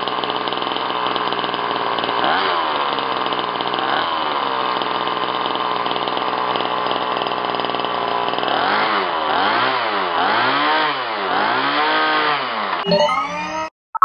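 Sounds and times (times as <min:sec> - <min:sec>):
two-stroke engine revving: 0:00.3 - 0:12.8.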